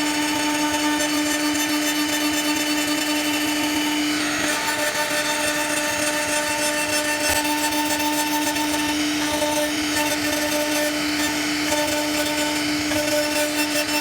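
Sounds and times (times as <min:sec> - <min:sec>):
bit cutting into wood: 0:00.0 - 0:14.0
cnc router spindle whine: 0:00.0 - 0:14.0.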